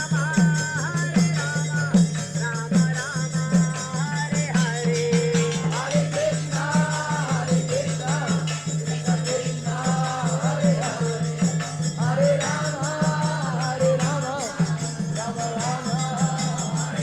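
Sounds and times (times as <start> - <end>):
group singing a devotional chant: 0.0 - 17.0
hand drums beating: 0.0 - 17.0
jingling hand cymbals: 0.0 - 17.0.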